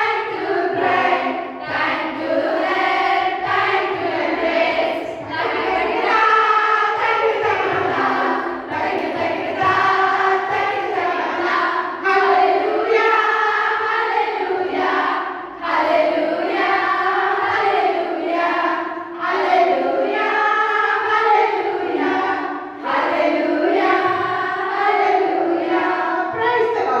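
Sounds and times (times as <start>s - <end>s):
women singing in unison: 0.0s - 26.4s.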